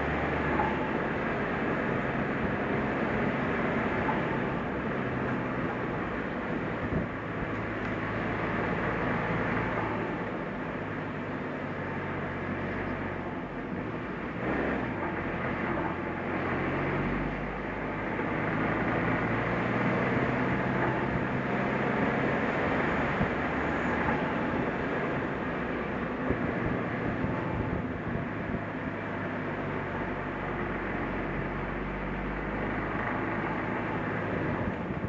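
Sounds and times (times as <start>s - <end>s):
car engine hum: 0.0s - 35.0s
tyre and road rumble: 0.0s - 35.0s.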